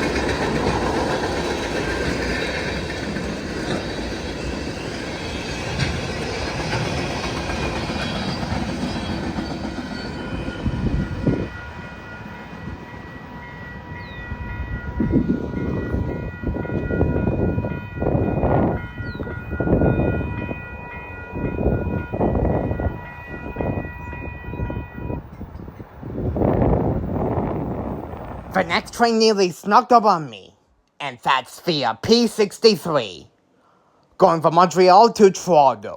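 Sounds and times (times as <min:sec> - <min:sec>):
freight train cars clattering: 0:00.0 - 0:29.1.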